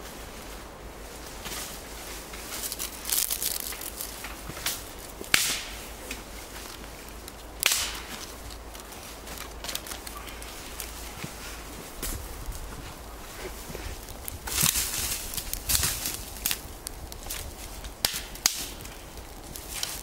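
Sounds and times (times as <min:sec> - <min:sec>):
kindling fire crackling: 0:00.0 - 0:20.0
twigs snapping and rustling: 0:01.3 - 0:20.0.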